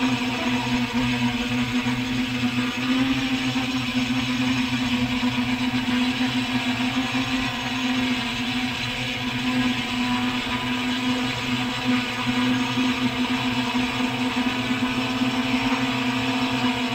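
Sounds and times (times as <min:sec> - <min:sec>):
drone propellers buzzing: 0:00.0 - 0:16.9.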